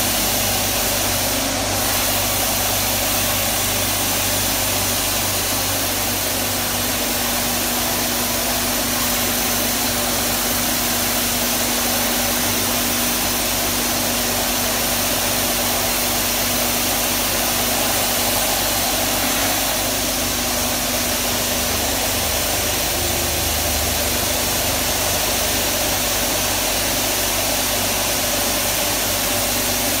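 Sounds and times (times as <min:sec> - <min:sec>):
industrial vacuum roaring: 0:00.0 - 0:30.0
steady hum: 0:00.0 - 0:30.0.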